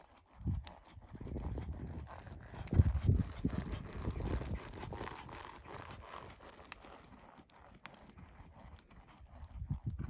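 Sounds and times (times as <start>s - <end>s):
hoofbeats on sand: 0.2s - 10.0s.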